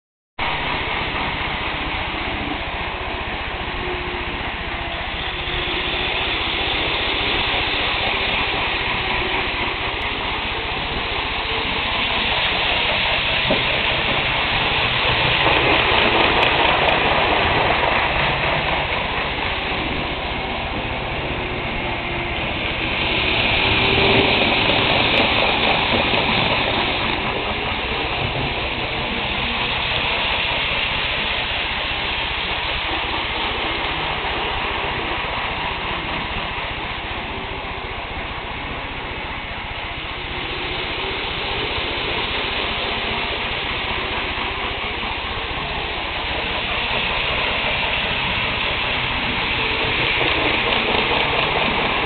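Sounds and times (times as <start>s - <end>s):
model train whirring on rails: 0.4s - 52.0s.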